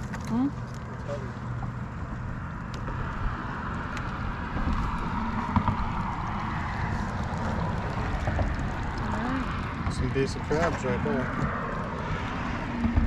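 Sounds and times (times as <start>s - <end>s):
boat motor running low speed: 0.0s - 12.0s
water noise: 0.0s - 13.0s.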